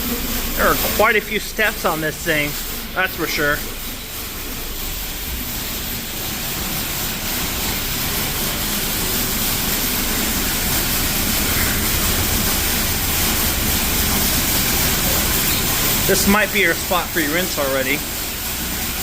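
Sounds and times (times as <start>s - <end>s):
high-pressure water jets hissing: 0.0s - 19.0s.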